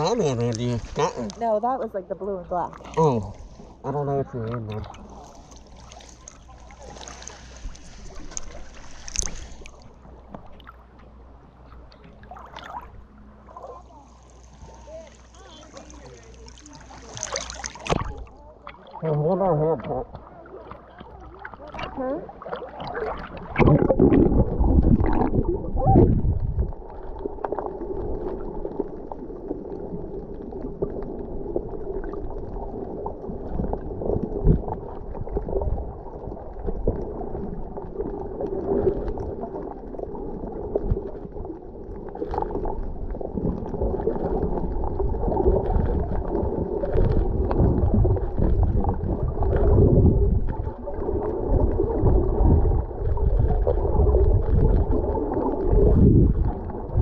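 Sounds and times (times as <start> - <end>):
underwater rumble and gurgle: 0.0 - 57.0.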